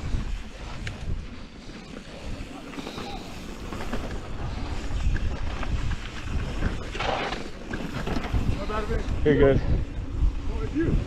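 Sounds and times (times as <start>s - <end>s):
bike rattling: 0.0s - 11.0s
bike tyres on dirt: 0.0s - 11.0s
wind rumbling on microphone: 0.0s - 11.0s.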